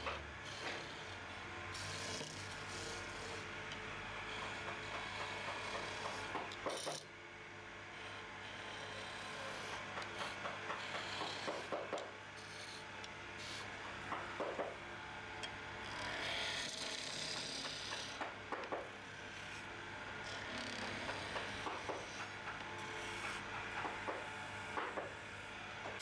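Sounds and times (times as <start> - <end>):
chisel scraping spinning wood: 0.0 - 7.0, 8.0 - 14.8, 15.4 - 26.0
lathe motor hum: 0.0 - 26.0.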